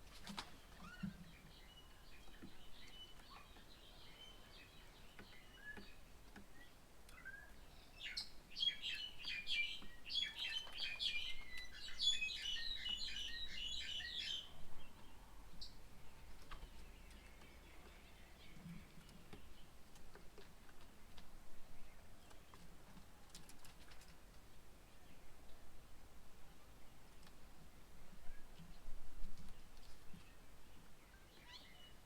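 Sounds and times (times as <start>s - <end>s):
birds chirping: 0.4s - 24.0s, 26.5s - 32.0s.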